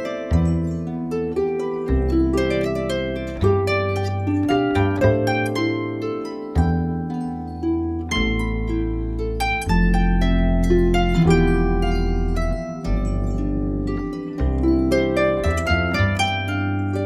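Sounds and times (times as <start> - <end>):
harp music: 0.0 - 17.0.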